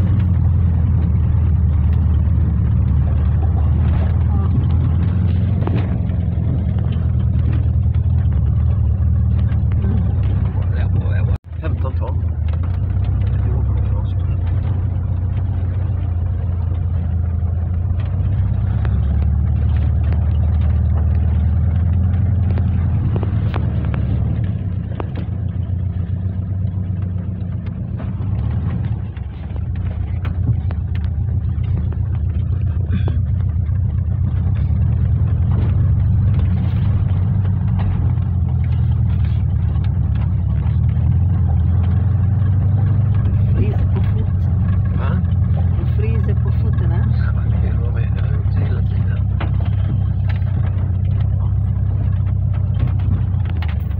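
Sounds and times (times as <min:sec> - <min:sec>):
small knocks and rattles: 0:00.0 - 0:53.9
van engine and road drone: 0:00.0 - 0:53.9.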